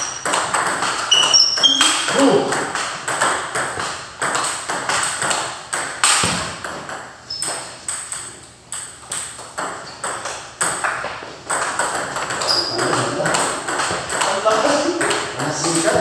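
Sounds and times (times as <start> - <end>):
table tennis balls clicking: 0.0 - 16.0.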